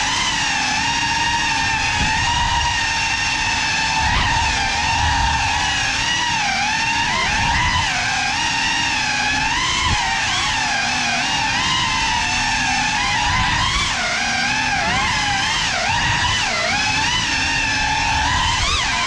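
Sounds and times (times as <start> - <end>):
drone propellers whining: 0.0 - 19.0.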